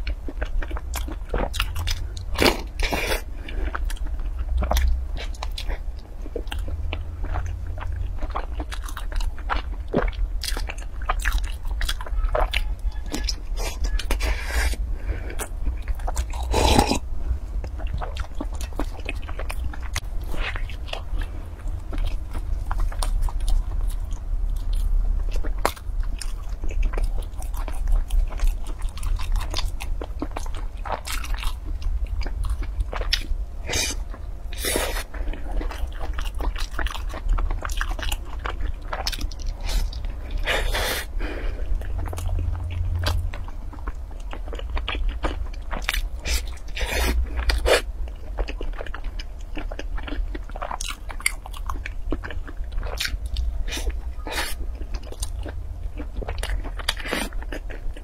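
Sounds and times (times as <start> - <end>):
person chewing crunchy food: 0.0 - 58.0
steady low hum: 0.0 - 58.0.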